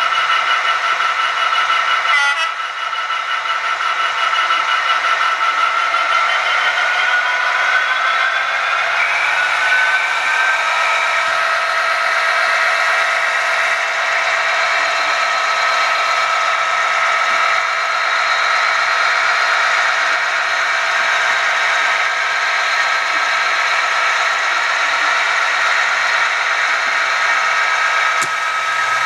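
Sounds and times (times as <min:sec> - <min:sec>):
model diesel engine drone: 0:00.0 - 0:29.0.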